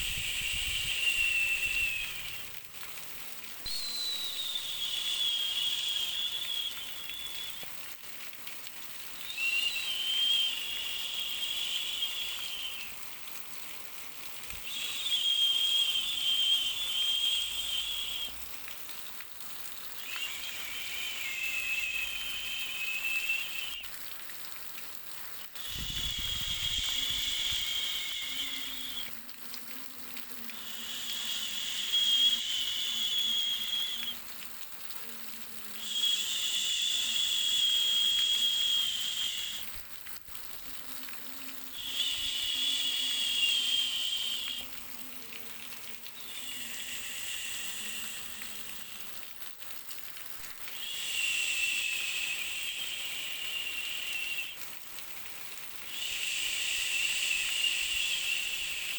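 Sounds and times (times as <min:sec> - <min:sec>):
hiss with high whistle: 0:00.0 - 0:58.9.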